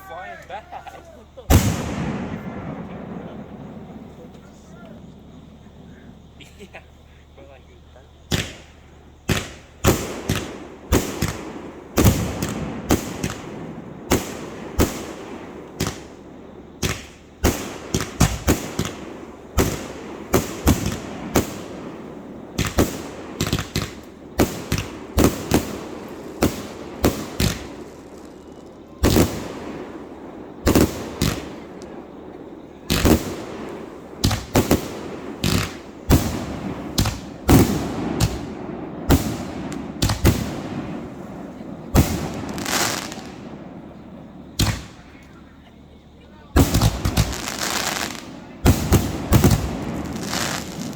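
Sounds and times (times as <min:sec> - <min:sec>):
fireworks sharp bangs: 0:00.0 - 0:50.9.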